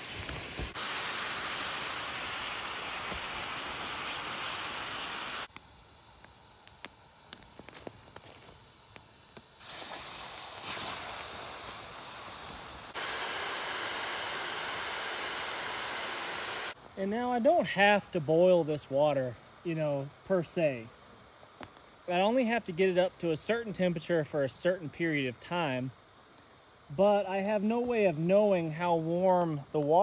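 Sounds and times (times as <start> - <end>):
hot rocks hissing in water: 0.0 - 30.0.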